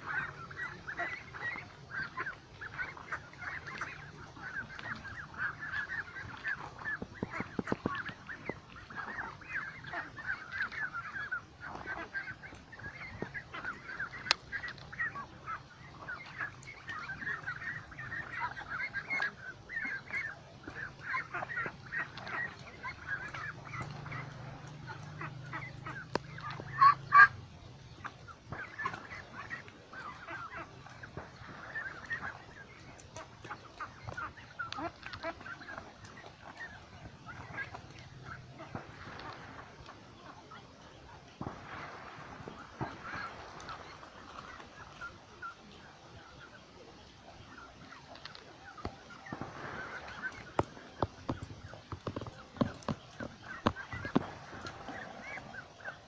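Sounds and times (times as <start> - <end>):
ducks calling: 0.0 - 56.0.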